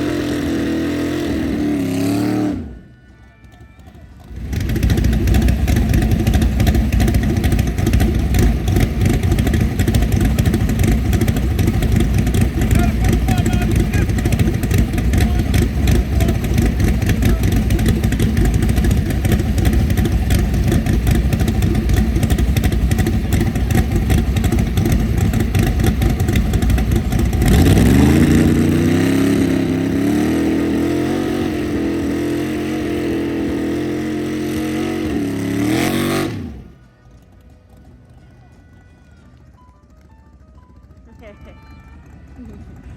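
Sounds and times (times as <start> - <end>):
car engine rumbling and revving: 0.0 - 3.0, 3.8 - 38.6.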